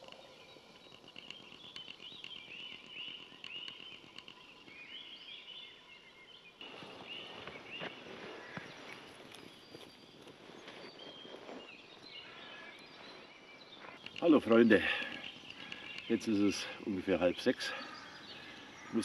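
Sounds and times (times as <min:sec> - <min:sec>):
songbirds dawn chorus: 0:00.0 - 0:19.0.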